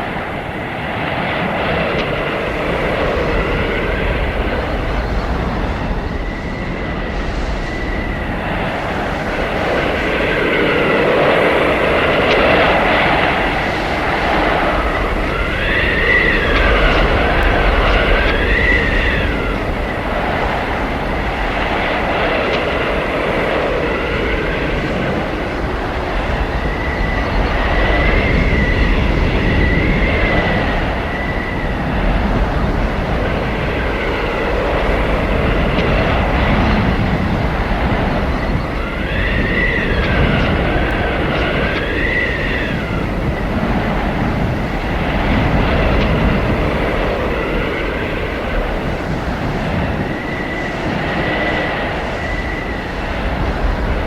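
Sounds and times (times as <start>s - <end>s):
howling blizzard wind: 0.0s - 54.0s.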